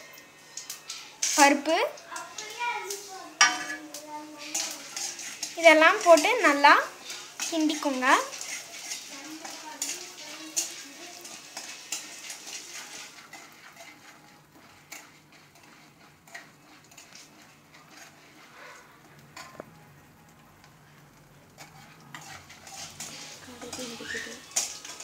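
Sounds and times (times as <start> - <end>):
seeds sizzling in hot oil: 0.0 - 25.0
metal ladle scraping pan: 0.6 - 19.8, 21.5 - 25.0.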